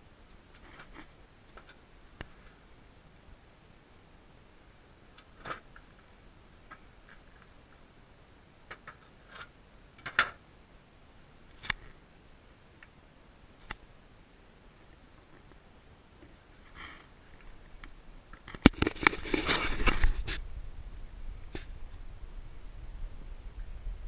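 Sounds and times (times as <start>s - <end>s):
faint low hiss: 0.0s - 24.0s.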